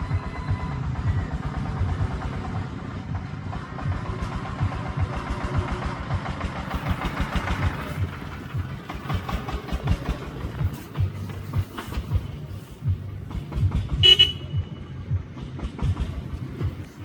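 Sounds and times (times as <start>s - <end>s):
truck diesel engine thumping: 0.0s - 17.0s.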